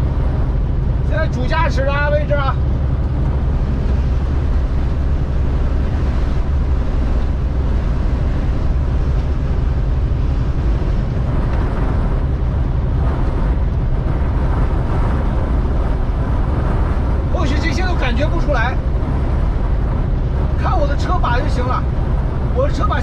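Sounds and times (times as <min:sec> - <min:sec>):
truck road and engine drone: 0:00.0 - 0:23.0
wind rushing through window: 0:00.0 - 0:23.0.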